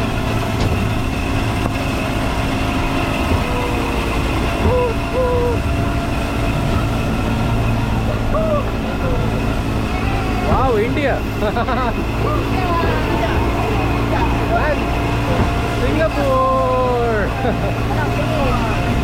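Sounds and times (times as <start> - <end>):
train engine drone: 0.0 - 19.0.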